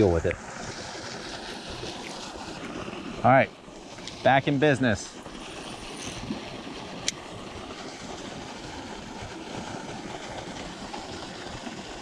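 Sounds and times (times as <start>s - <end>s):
river water rushing through spillway: 0.0s - 12.0s.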